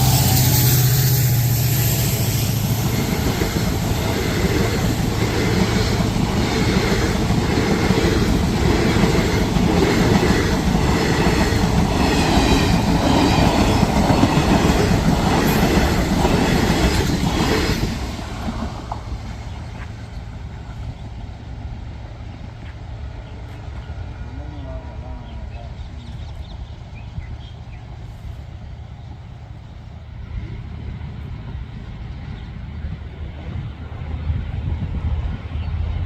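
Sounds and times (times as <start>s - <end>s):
train rumbling past: 0.0s - 36.0s.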